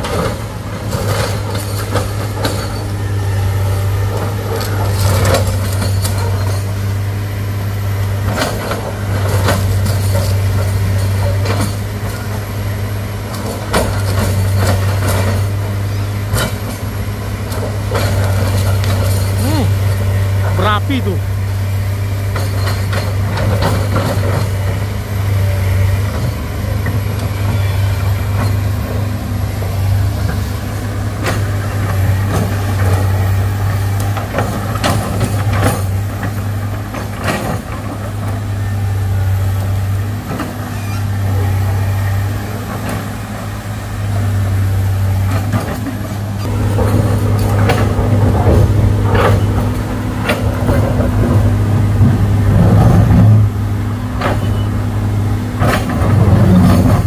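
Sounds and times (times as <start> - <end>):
excavator diesel engine drone: 0.0 - 57.0.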